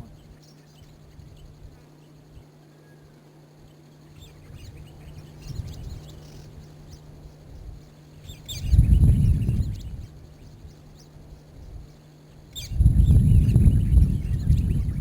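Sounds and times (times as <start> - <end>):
steady low hum: 0.0 - 15.0
wild birds chirping: 0.0 - 15.0.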